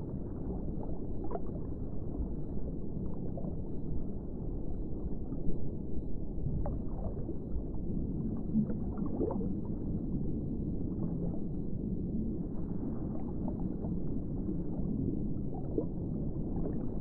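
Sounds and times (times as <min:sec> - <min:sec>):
muffled underwater rumble: 0:00.0 - 0:17.0
gurgling bubbles: 0:00.1 - 0:05.6, 0:06.3 - 0:17.0.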